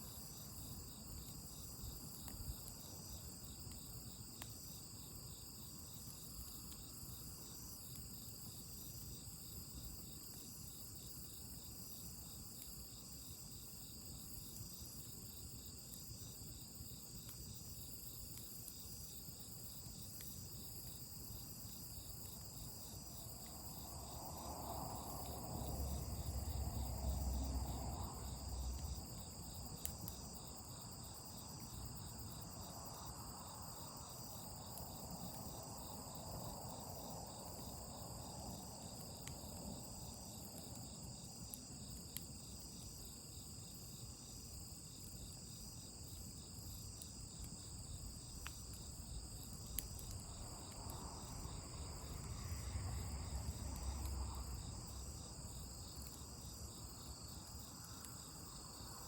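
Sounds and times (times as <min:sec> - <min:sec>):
crickets and insects chirping: 0:00.0 - 0:59.0.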